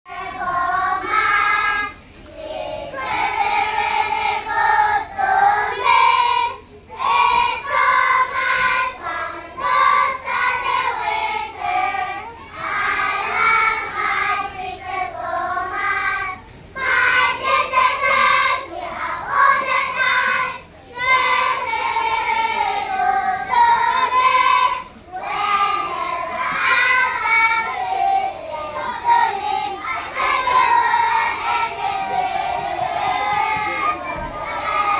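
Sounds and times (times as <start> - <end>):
children's choir singing: 0.1 - 34.9.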